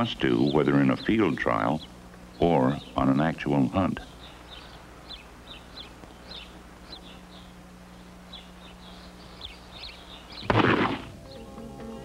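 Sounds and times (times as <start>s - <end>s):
faint low hum: 0.0s - 12.0s
small birds chirping: 0.0s - 12.0s.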